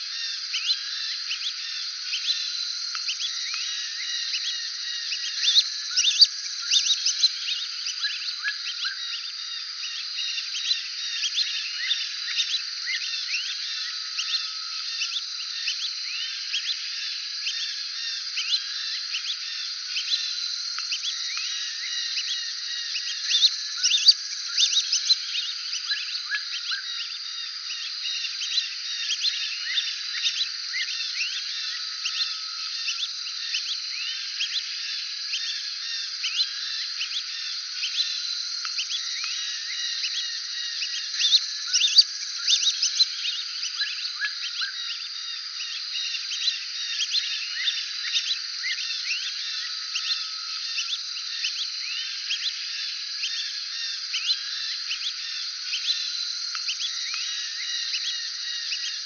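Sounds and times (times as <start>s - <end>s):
ducks whistling calls: 0.0s - 59.0s.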